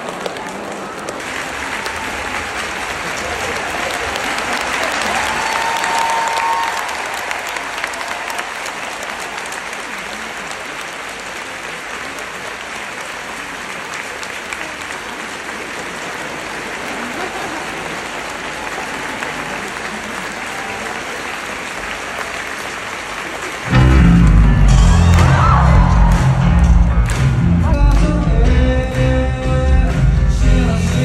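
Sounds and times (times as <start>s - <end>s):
stadium crowd applauding: 0.0s - 31.0s.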